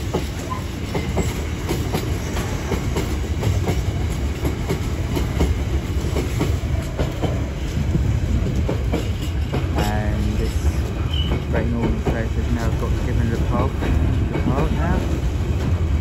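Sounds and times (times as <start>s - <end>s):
low train rumble: 0.0s - 16.0s
wheels clacking over rail joints: 0.0s - 16.0s.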